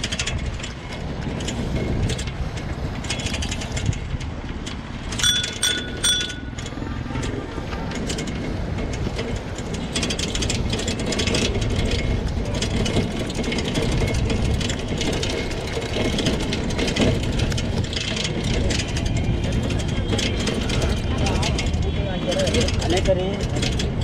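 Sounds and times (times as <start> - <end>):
bike clicking and rattling: 0.0 - 24.0
wind and wheels rumbling: 0.0 - 24.0.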